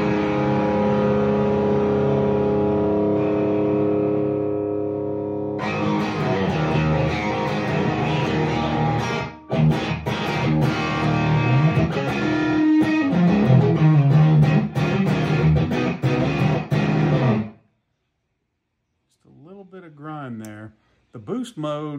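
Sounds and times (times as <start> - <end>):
overdriven electric guitar riff: 0.0 - 17.6.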